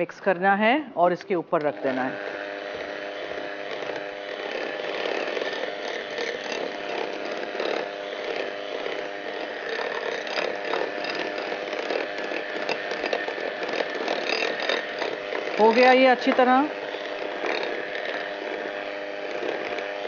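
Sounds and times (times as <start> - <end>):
electric hand mixer whipping: 0.0 - 20.0.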